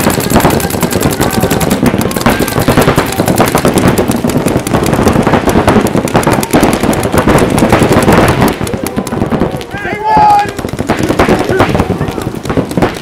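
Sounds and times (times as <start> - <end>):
paintball markers firing rapidly: 0.0 - 13.0.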